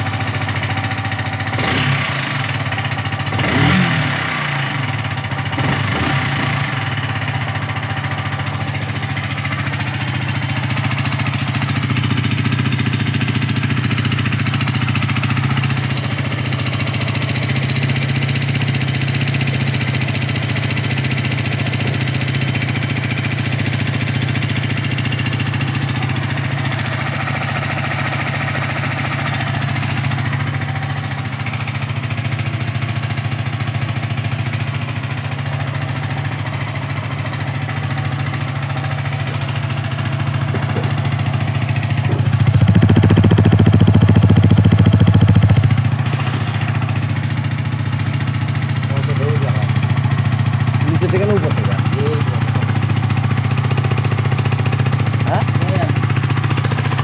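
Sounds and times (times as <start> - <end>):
engine knocking: 0.0 - 57.0
motorcycle engine idling: 0.0 - 57.0.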